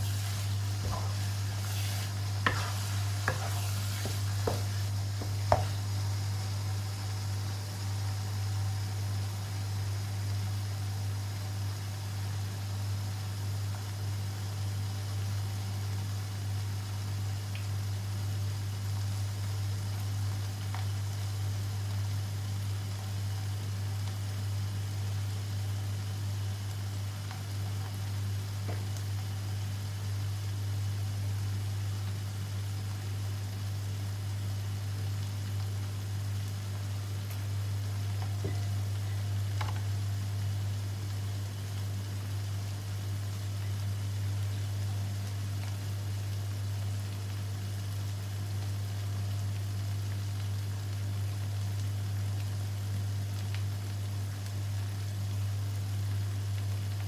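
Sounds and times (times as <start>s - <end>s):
sauce simmering with pops: 0.0s - 8.5s, 17.1s - 57.0s
faint hiss: 0.0s - 57.0s.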